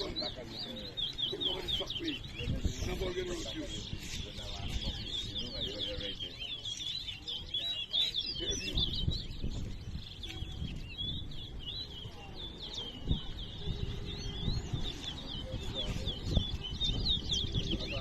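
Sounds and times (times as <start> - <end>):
finches chirping: 0.0 - 18.0.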